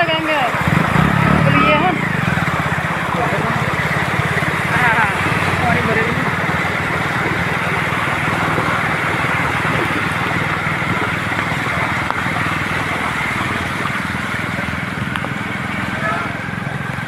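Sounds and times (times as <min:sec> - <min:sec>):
motorcycle engine running: 0:00.0 - 0:17.0
water rushing: 0:00.0 - 0:17.0.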